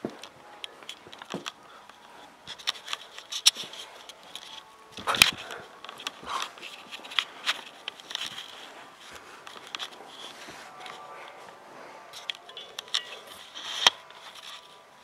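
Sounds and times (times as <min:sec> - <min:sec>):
camera handling rustling: 0:00.0 - 0:14.8.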